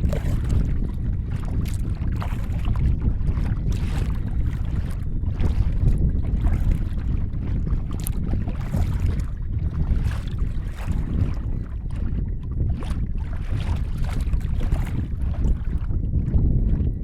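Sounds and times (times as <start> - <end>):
water lapping against kayak hull: 0.0 - 17.0
wind buffeting microphone: 0.0 - 17.0.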